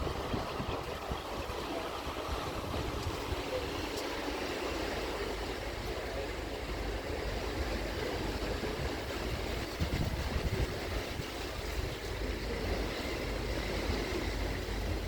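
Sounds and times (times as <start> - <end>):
wind buffeting microphone: 0.0 - 5.9, 6.7 - 15.0
rushing water: 0.0 - 15.0.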